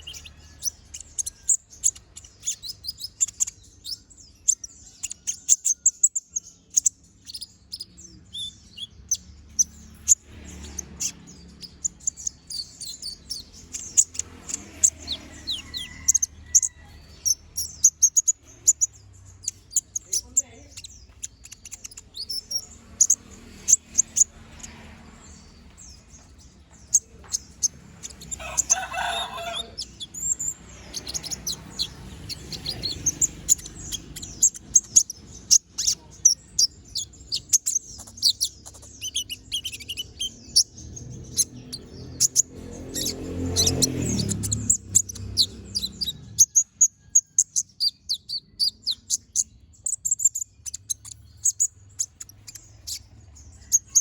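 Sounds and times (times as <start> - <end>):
bird chirping and trilling: 0.0 - 54.0.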